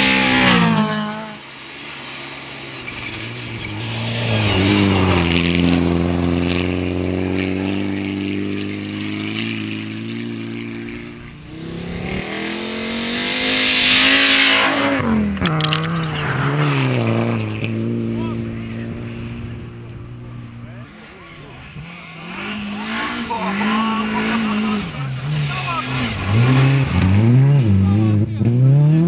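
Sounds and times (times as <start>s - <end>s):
rally car engine at full throttle: 0.0s - 29.0s.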